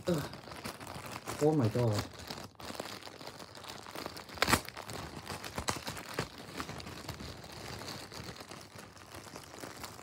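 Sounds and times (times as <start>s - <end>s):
packaging rustling and crinkling: 0.0s - 10.0s
packaging tearing: 0.0s - 10.0s.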